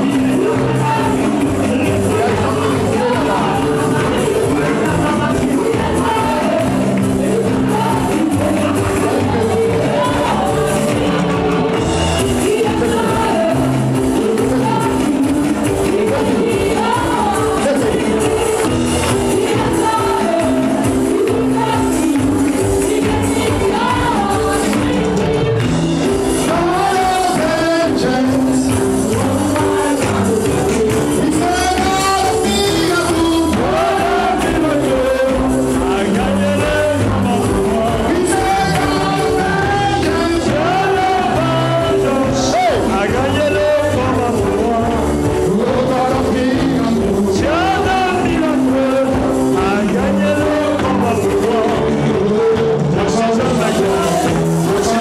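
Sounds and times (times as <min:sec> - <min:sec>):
band accompaniment: 0:00.0 - 0:55.0
worship song singing: 0:00.0 - 0:55.0.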